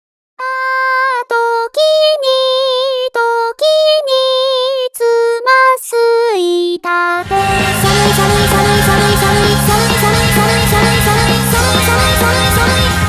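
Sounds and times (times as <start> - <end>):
high singing voice with vibrato: 0.4 - 13.0.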